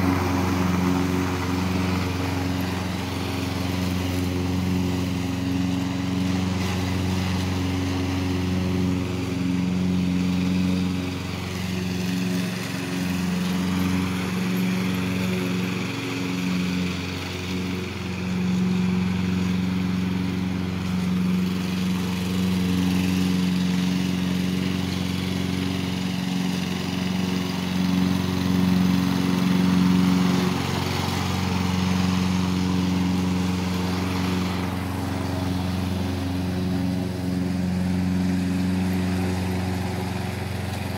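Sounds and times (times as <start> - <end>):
lawn mower engine cutting grass: 0.0 - 40.9.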